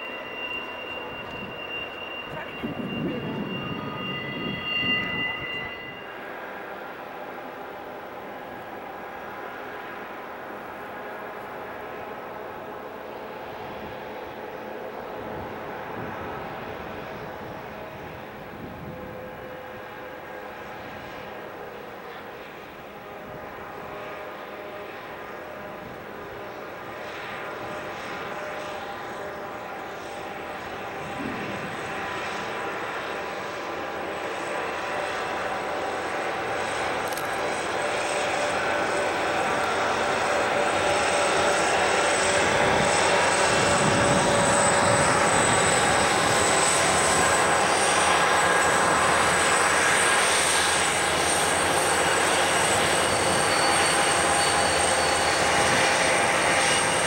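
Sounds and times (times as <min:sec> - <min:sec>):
diesel locomotives passing: 0:00.0 - 0:57.0.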